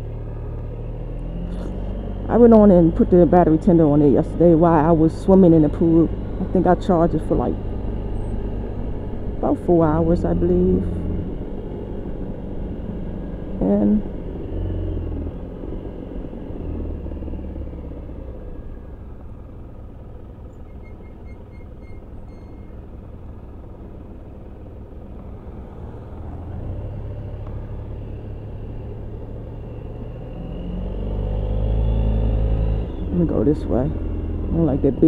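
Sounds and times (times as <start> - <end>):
scooter engine running: 0.0 - 30.6.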